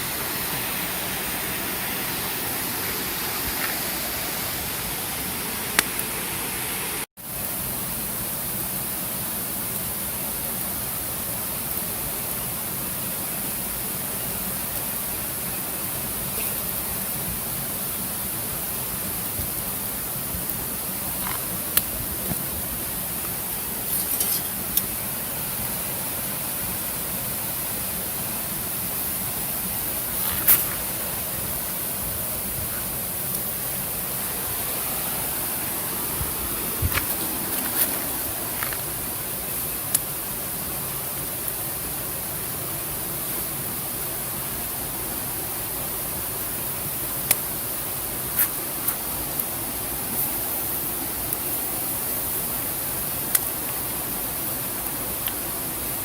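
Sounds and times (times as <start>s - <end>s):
campfire crackling: 0.0s - 56.0s
rushing hiss: 0.0s - 56.0s
fire popping: 0.3s - 6.2s, 9.5s - 42.4s, 46.5s - 55.6s.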